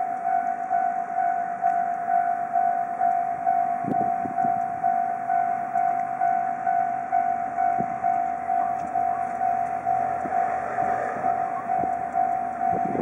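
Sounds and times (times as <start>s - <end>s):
level crossing alarm bell ringing: 0.0s - 13.0s.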